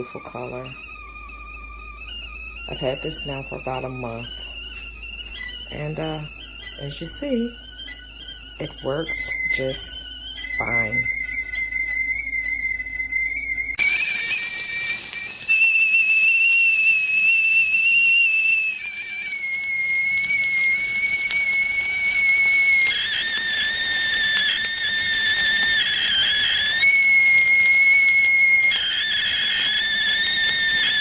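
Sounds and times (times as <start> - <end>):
tea kettle whistling: 0.0 - 31.0.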